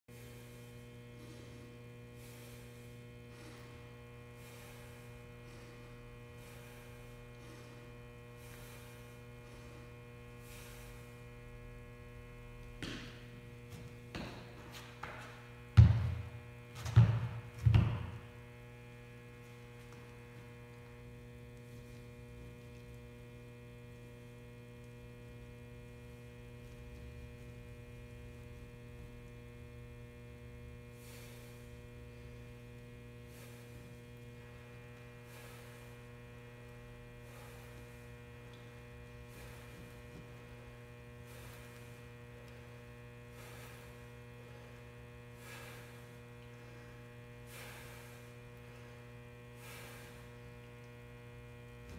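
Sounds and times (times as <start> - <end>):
low electrical hum: 0.1 - 51.9.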